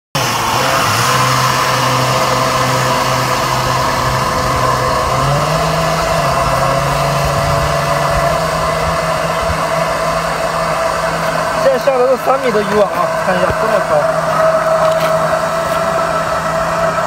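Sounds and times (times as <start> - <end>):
small motor humming: 0.2 - 17.0.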